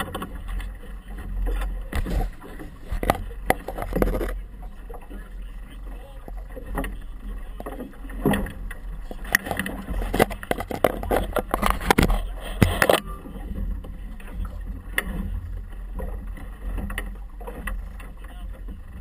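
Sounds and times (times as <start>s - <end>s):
steady low rumble: 0.0s - 19.0s
water splashing against boat hull: 0.0s - 19.0s.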